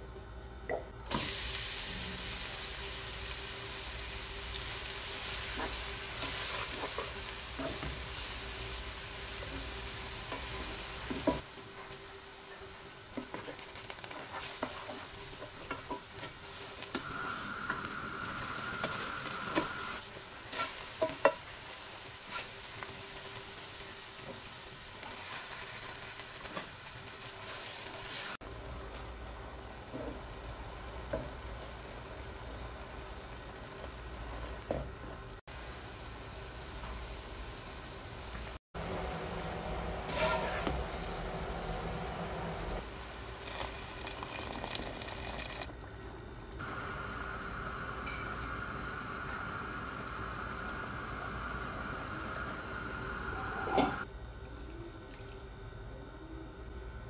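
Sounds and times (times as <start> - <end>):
onion sizzling in oil: 1.1 - 45.7, 46.6 - 54.1.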